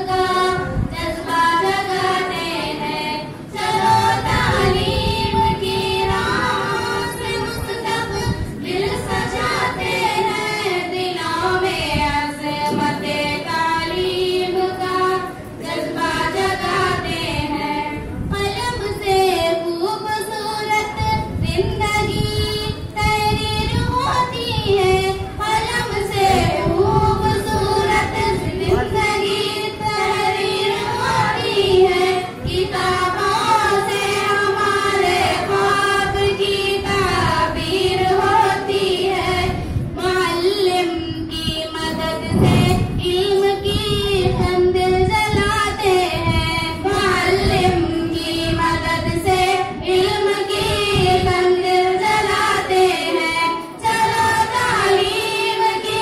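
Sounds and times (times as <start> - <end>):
girls singing into microphones: 0.0 - 56.0.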